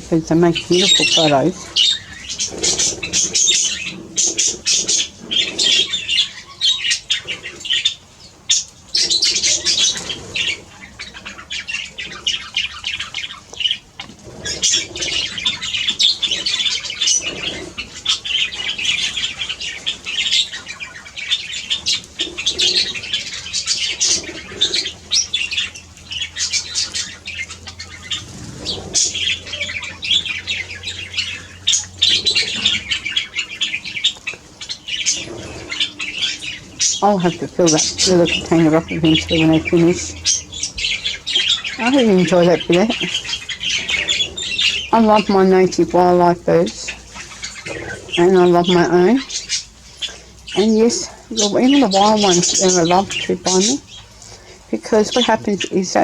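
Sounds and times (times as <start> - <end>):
birds chattering and squawking: 0.0 - 56.0
wings flapping in water: 0.0 - 56.0.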